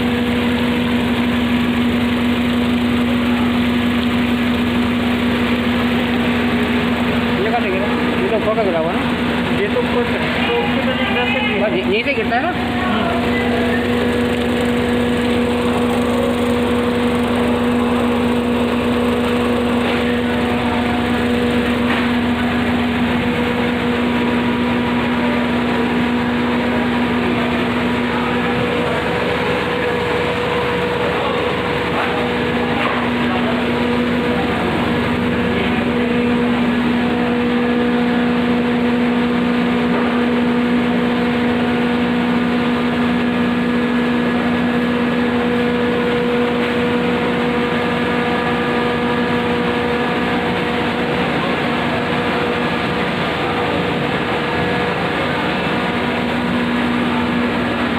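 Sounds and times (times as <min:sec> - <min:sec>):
grinding machine drone: 0:00.0 - 0:57.9.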